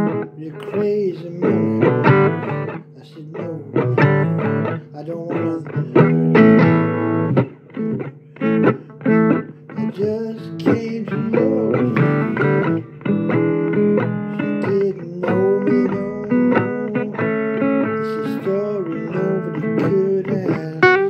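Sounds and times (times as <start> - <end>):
blues guitar with bent notes: 0.0 - 21.0.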